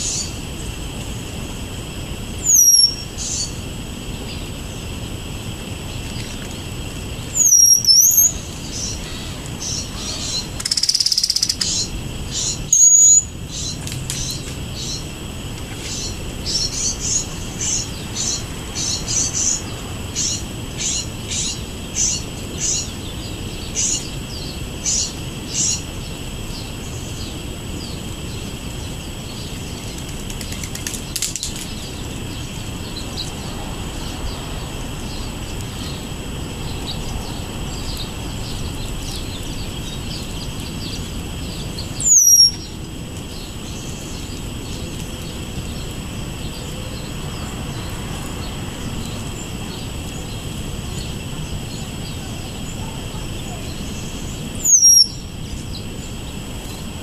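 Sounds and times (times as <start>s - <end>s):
songbirds chirping: 0.0s - 57.0s
steady high-pitched hiss: 0.0s - 57.0s.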